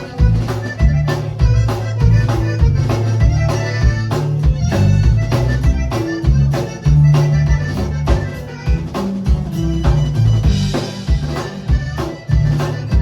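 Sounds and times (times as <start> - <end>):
accordion chords: 0.0 - 13.0
bass line: 0.0 - 13.0
drum and percussion beat: 0.0 - 13.0.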